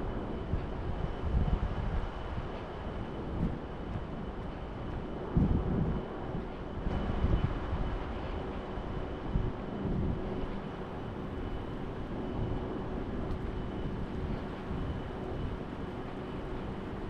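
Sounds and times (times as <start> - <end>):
faint continuous hum: 0.0 - 17.0.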